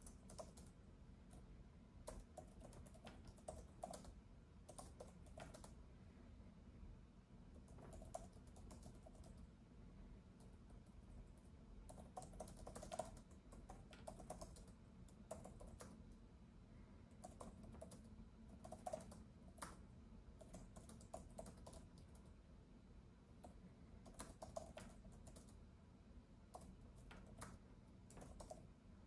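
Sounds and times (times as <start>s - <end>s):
soft keyboard typing: 0.0s - 5.9s, 7.5s - 9.6s, 10.2s - 16.2s, 17.1s - 22.5s, 23.3s - 25.8s, 26.4s - 28.8s
low background hum: 0.0s - 29.0s.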